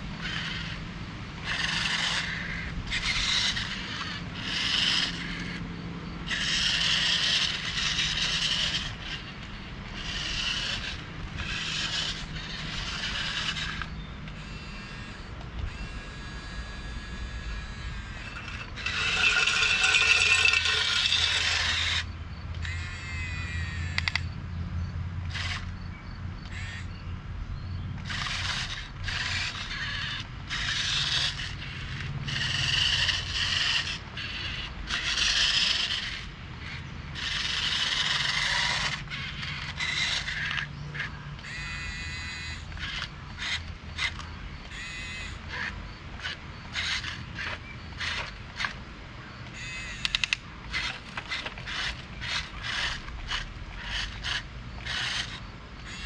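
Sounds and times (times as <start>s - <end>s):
toy electric motors whining: 0.0s - 24.4s, 25.2s - 27.0s, 27.9s - 56.0s.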